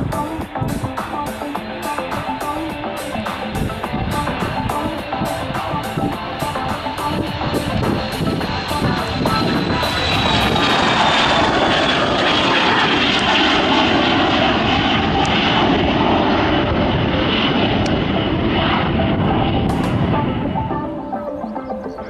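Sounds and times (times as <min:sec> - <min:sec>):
rushing air noise: 0:00.0 - 0:20.8
airliner engines whining: 0:00.0 - 0:22.0.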